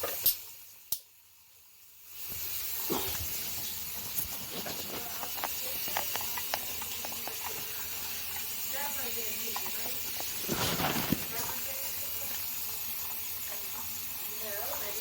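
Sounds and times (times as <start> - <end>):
water running at a sink: 0.0 - 15.0.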